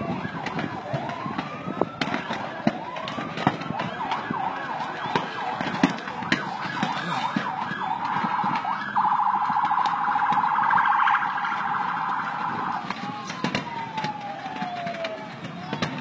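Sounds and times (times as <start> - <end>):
emergency vehicle siren: 0.0 - 16.0
fireworks popping: 0.0 - 16.0.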